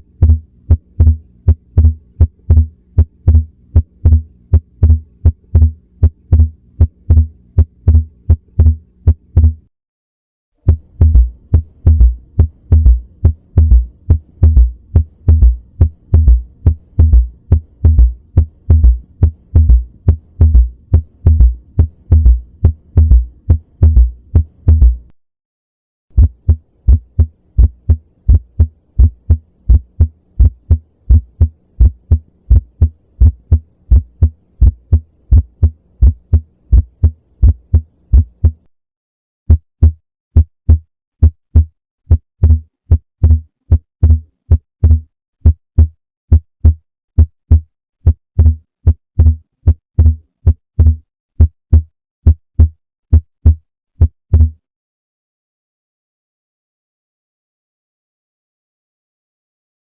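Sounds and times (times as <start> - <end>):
heartbeat lub-dub: 0.0 - 9.7, 10.6 - 25.1, 26.2 - 38.7, 39.5 - 54.6.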